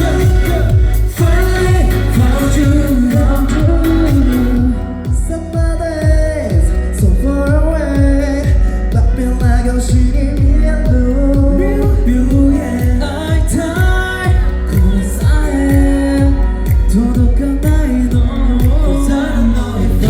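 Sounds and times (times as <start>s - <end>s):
kick drum beat: 0.0s - 18.9s
person singing: 0.0s - 20.0s.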